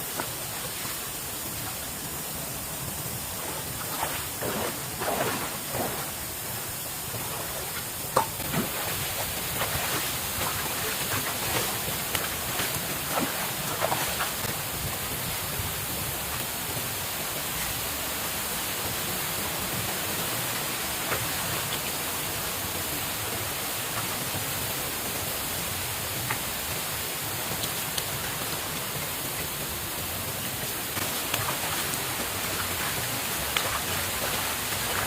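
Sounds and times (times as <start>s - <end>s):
water hiss: 0.0s - 35.0s.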